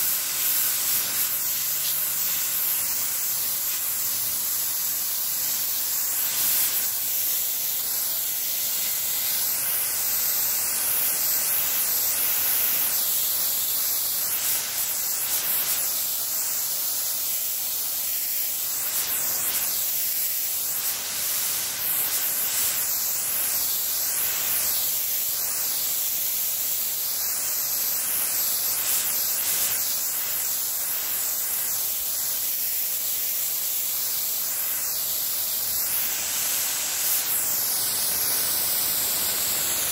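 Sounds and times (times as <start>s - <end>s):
hose nozzle spraying water: 0.0s - 39.9s.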